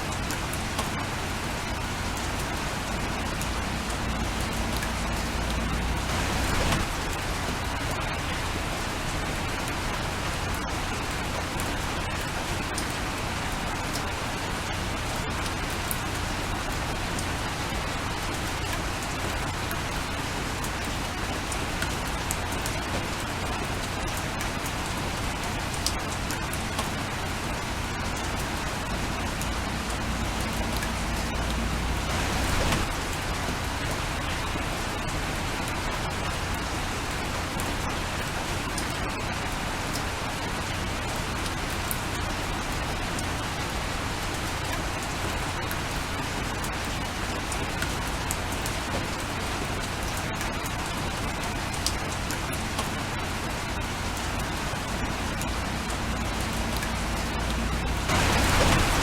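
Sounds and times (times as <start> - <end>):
fine raindrop ticks: 0.0 - 59.0
rain hissing: 0.0 - 59.0.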